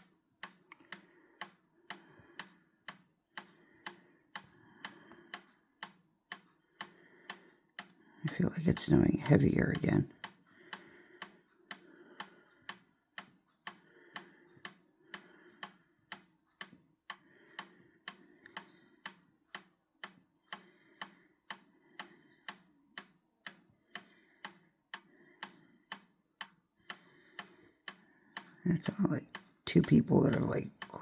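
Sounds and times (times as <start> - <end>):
sharp ticking: 0.0 - 31.0.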